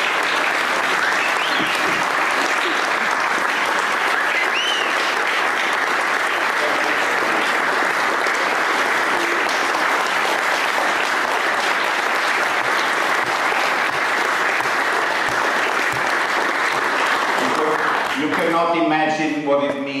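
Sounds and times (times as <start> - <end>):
crowd applauding: 0.0 - 19.4.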